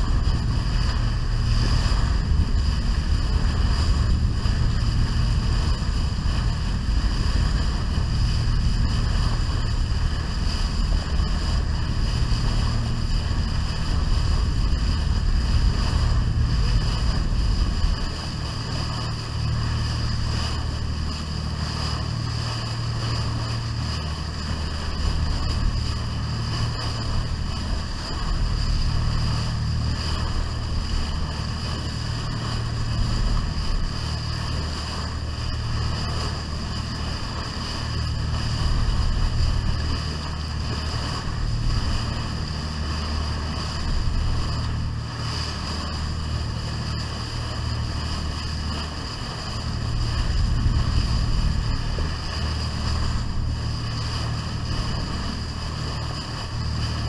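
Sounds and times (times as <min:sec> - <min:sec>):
boat engine low rumble: 0:00.0 - 0:57.0
bow wave rushing against hull: 0:00.0 - 0:57.0
wind buffeting microphone: 0:00.0 - 0:57.0.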